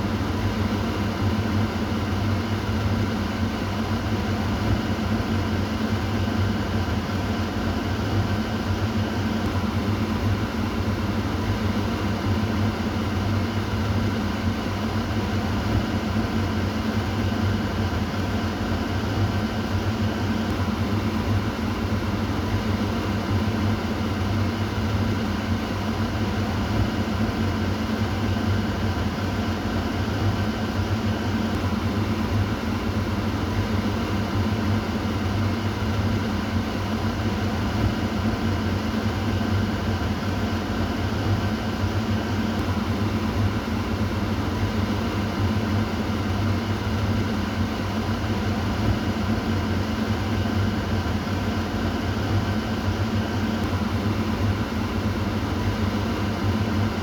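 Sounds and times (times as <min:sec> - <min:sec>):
exhaust fan air rush: 0:00.0 - 0:57.0.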